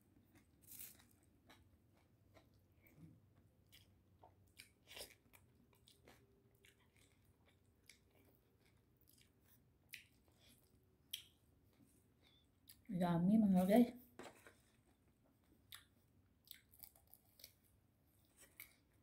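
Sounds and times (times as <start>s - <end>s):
person chewing: 0.2s - 12.9s, 14.7s - 19.0s.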